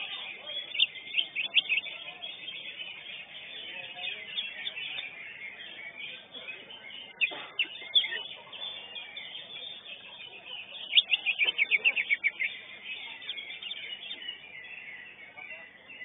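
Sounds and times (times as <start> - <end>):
bird twittering: 0.0 - 16.0.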